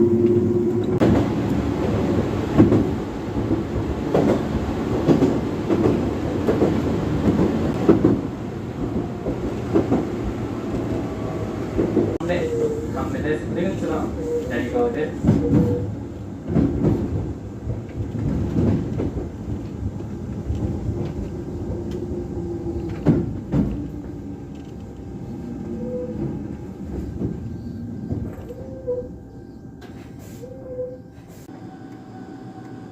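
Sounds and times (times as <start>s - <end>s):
train running rumble: 0.0s - 32.9s.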